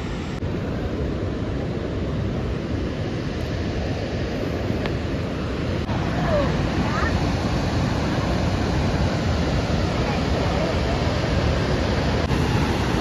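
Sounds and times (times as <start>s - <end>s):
distant waterfall roar: 0.0s - 13.0s.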